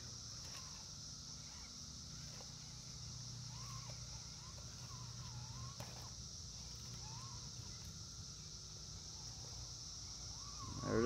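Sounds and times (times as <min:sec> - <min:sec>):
birds whistling calls: 0:00.0 - 0:11.0
insects droning: 0:00.0 - 0:11.0.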